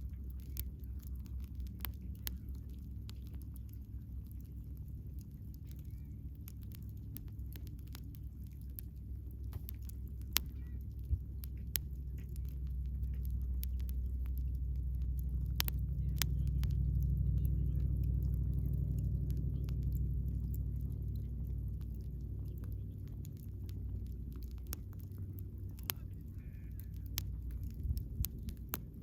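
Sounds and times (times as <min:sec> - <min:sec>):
campfire crackling: 0:00.0 - 0:29.0
low rumble: 0:00.0 - 0:29.0.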